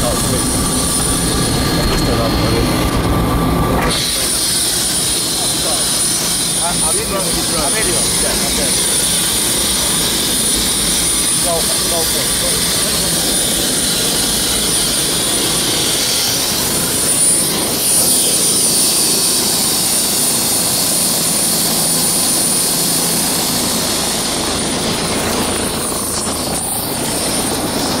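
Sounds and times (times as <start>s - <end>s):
helicopter rotor and turbine: 0.0s - 28.0s
high turbine whine: 0.0s - 28.0s.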